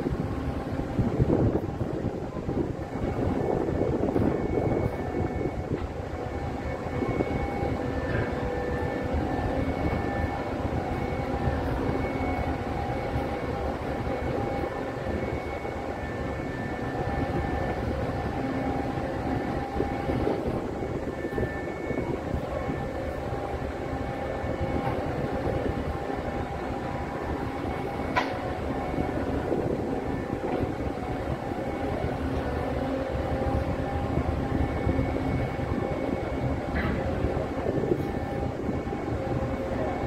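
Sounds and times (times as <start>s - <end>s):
faint humming tones: 0.0s - 40.0s
heavy engines rumbling: 0.0s - 40.0s.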